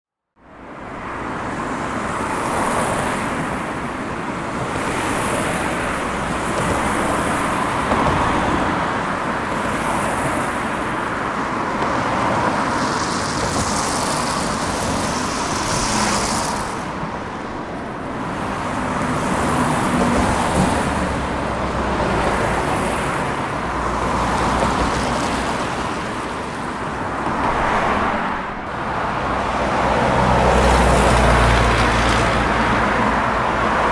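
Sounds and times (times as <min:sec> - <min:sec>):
cars passing: 0:00.4 - 0:33.9.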